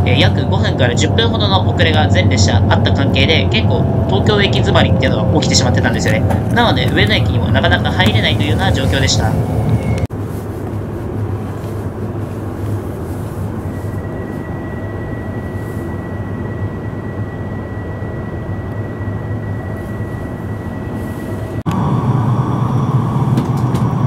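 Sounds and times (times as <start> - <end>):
train interior low rumble: 0.0 - 24.0.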